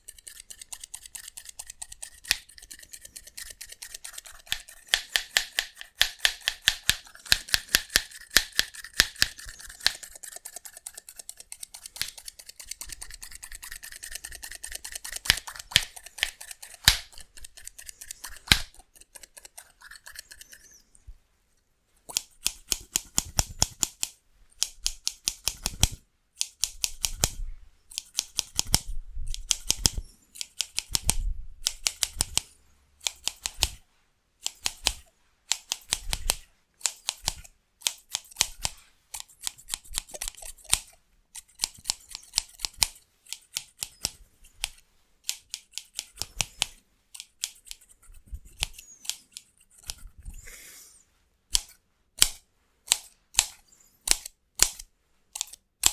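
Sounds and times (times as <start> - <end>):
scissors snipping hair: 0.0 - 20.7, 22.1 - 33.8, 34.4 - 50.1, 51.5 - 55.9.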